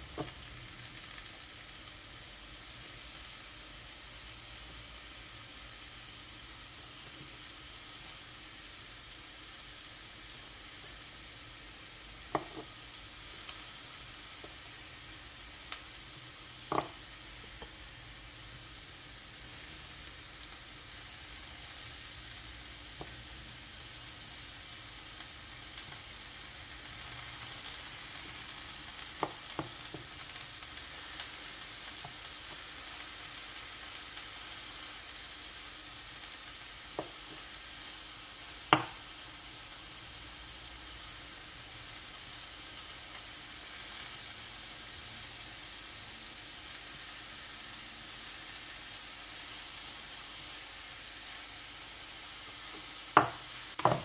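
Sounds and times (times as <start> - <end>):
onion sizzling in a pan: 0.0 - 54.0.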